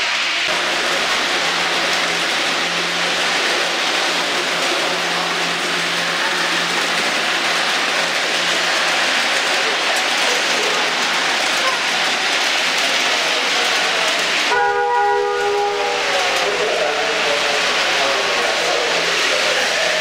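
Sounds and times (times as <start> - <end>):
model train wheels on rails: 0.0 - 20.0.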